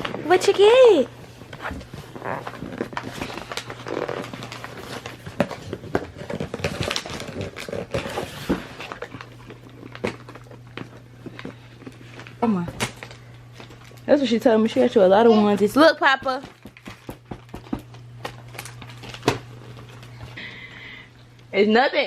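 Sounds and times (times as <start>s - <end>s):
paper rustling and crinkling: 0.0s - 20.4s.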